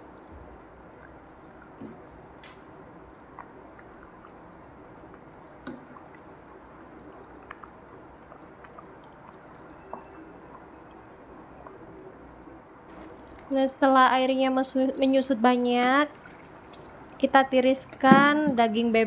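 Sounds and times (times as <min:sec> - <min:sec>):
stew simmering and bubbling: 0:00.0 - 0:18.7.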